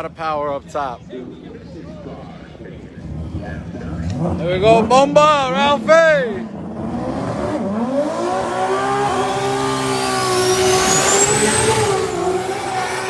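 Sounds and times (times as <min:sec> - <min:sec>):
drag car engine at full throttle: 0:00.0 - 0:13.0.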